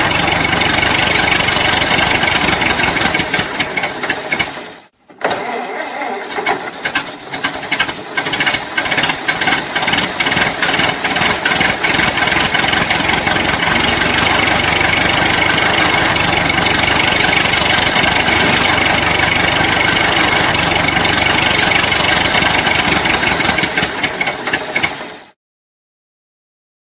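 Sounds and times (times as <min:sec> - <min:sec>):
old car engine cranking and sputtering: 0:00.0 - 0:25.4.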